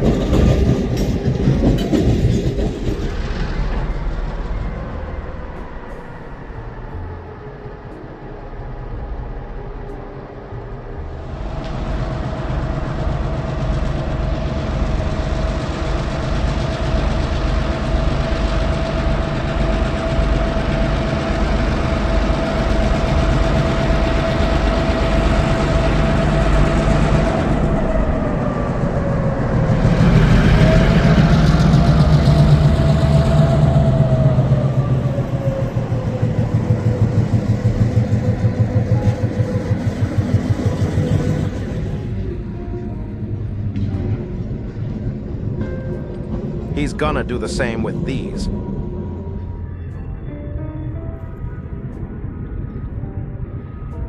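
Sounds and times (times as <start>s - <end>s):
train wheels rolling: 0.0s - 8.1s, 10.8s - 50.0s
locomotive engine running: 0.0s - 50.3s
steady whine: 2.4s - 54.0s.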